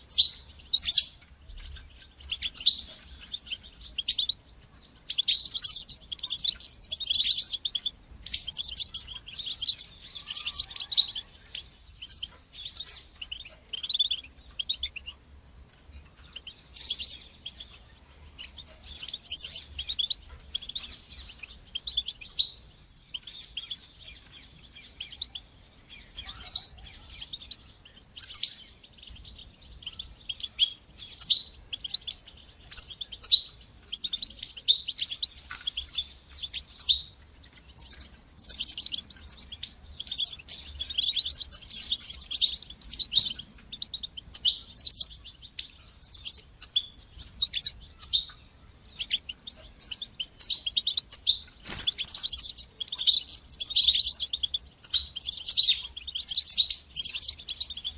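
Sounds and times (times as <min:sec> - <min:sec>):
finch twittering song: 0:00.0 - 0:57.9.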